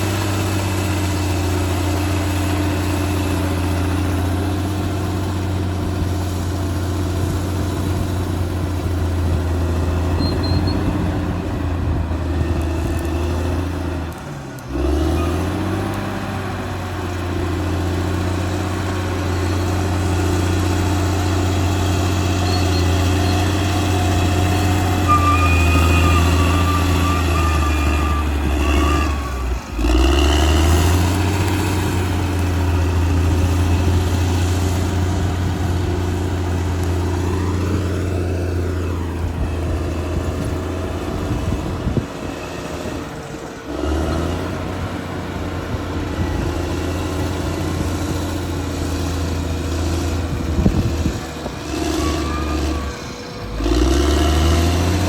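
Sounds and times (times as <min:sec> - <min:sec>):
bulldozer diesel engine droning: 0:00.0 - 0:55.0
engine whine: 0:00.0 - 0:55.0.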